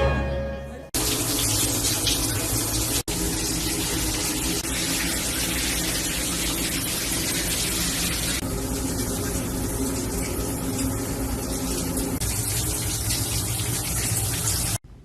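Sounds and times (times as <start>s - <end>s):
running water: 1.0s - 14.8s.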